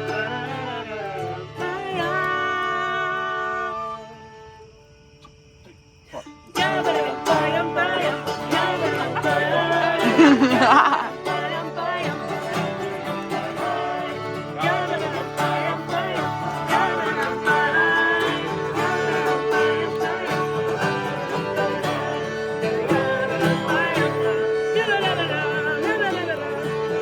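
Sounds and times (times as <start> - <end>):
plucked guitar and banjo: 0.0 - 3.1, 6.2 - 27.0.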